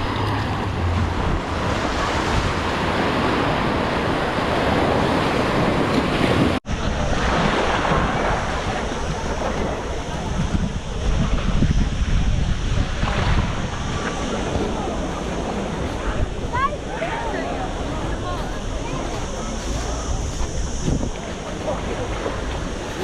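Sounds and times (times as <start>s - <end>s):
sea waves washing ashore: 0.0s - 23.0s
wind buffeting microphone: 0.0s - 23.0s.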